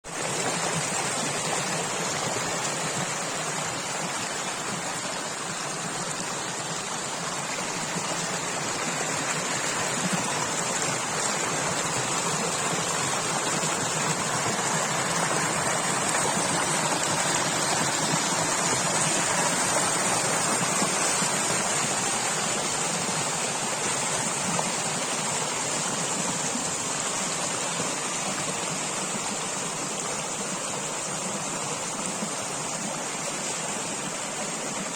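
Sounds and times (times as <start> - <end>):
stream of water flowing: 0.0 - 34.9.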